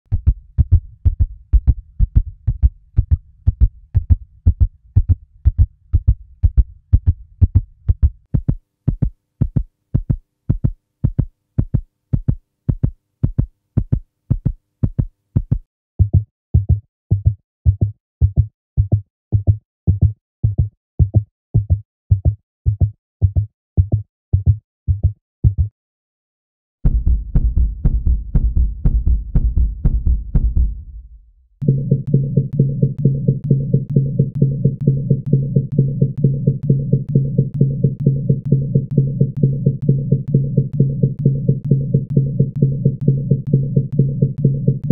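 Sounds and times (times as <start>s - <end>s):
fast heartbeat thumps: 0.0s - 25.7s, 26.8s - 44.9s.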